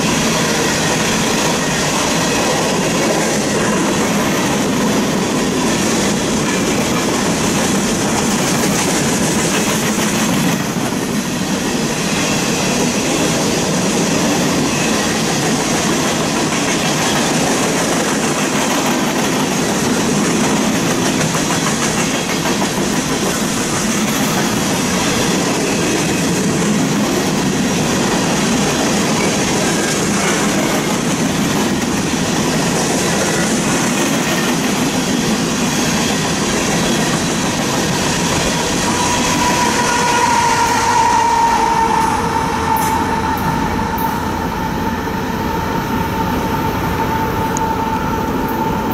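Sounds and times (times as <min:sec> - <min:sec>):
steel train wheels rolling on rails: 0:00.0 - 0:48.9.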